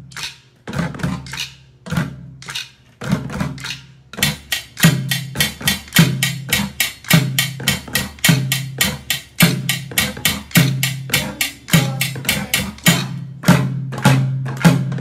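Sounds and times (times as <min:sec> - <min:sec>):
drumsticks striking plastic buckets: 0:02.4 - 0:14.8.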